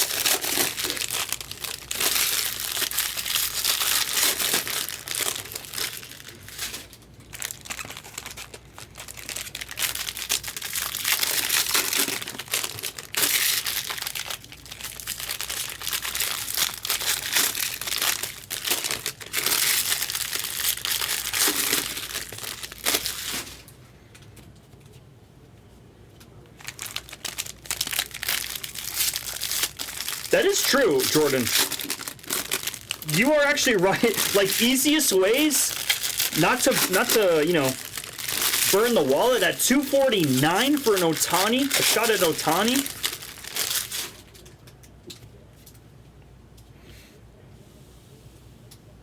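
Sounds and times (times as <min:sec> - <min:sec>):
card pack wrappers crinkling and tearing: 0:00.0 - 0:23.7, 0:26.6 - 0:44.8.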